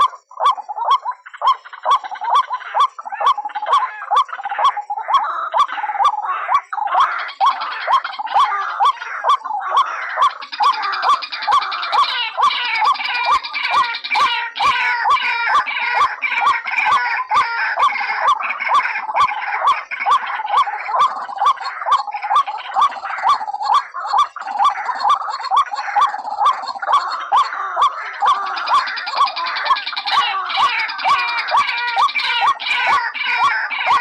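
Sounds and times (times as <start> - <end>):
waterhen calling: 0.0 - 34.0.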